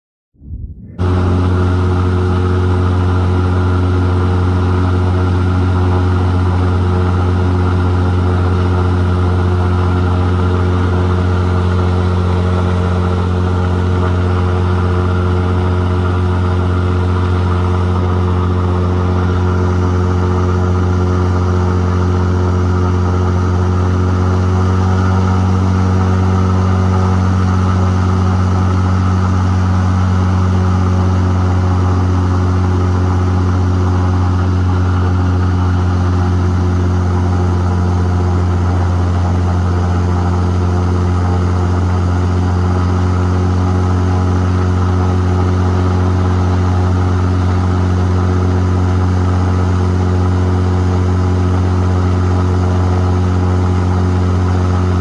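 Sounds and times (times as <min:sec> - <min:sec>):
airboat engine and propeller drone: 0:00.6 - 0:55.0.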